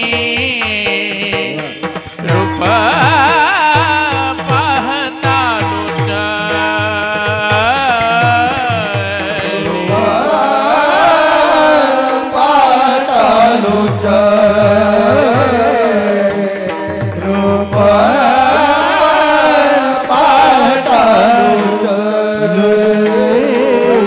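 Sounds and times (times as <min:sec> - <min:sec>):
hand cymbals ticking: 0:00.0 - 0:24.0
person singing with melodic glides: 0:00.0 - 0:24.0.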